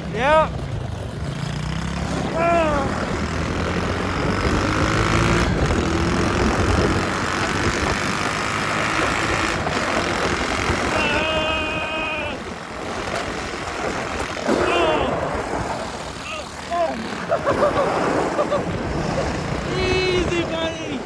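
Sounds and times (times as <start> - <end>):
small motorbike engine running: 0.0 - 21.0.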